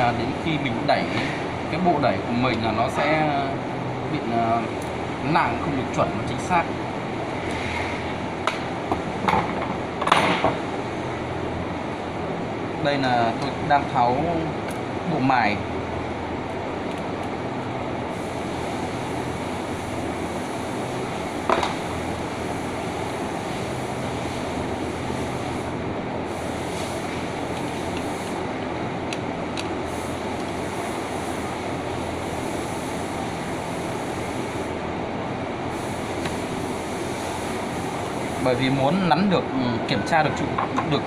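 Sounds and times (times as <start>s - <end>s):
workshop machine noise: 0.0s - 41.0s.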